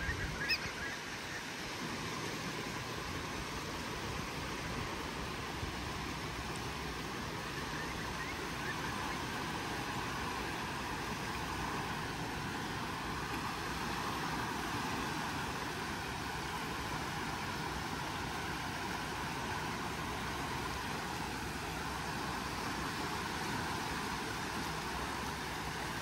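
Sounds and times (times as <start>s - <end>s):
waves washing onto beach: 0.0s - 26.0s.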